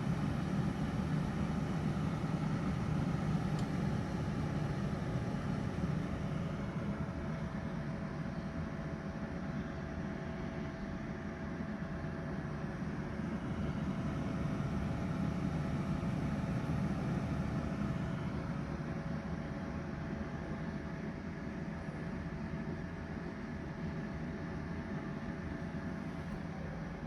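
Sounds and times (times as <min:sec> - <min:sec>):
air fryer fan whirring: 0:00.0 - 0:27.0
faint constant whine: 0:00.0 - 0:27.0.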